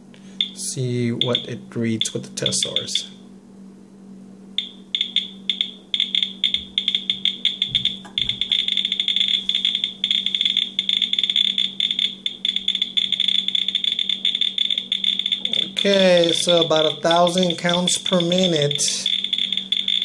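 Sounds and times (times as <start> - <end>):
geiger counter clicking: 0.4 - 3.1, 4.6 - 20.0.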